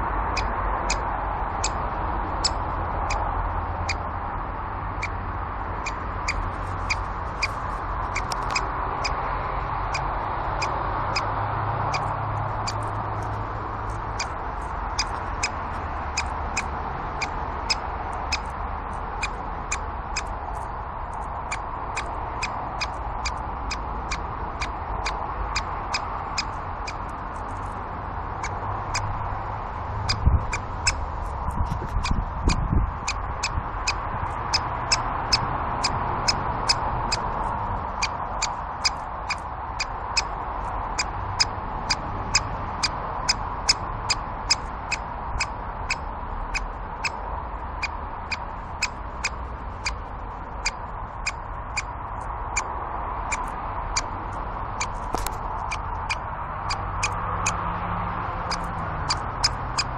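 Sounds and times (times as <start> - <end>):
woodpecker kik calls: 0.0 - 1.8, 2.4 - 4.1, 5.0 - 5.2, 5.8 - 11.3, 11.9 - 29.3, 30.0 - 47.2, 47.8 - 51.9, 52.5 - 52.7, 53.3 - 57.6, 58.3 - 59.9.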